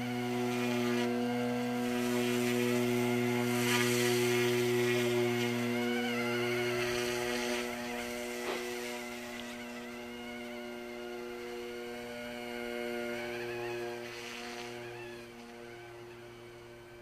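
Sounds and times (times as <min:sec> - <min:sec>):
rc helicopter motors whining: 0:00.0 - 0:17.0.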